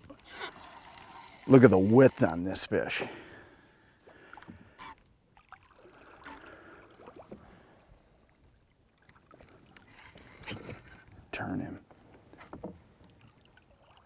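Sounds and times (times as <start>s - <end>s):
water lapping against boat: 0.0s - 11.1s, 12.3s - 14.0s.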